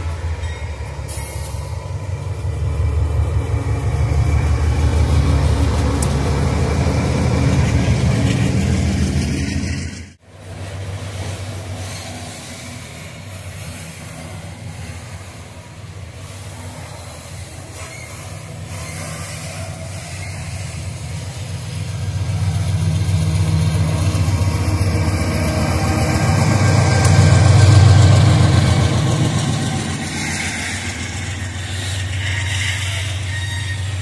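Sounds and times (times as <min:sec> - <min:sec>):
diesel locomotive engine: 0:00.0 - 0:34.0
freight train wheels on rails: 0:00.0 - 0:34.0.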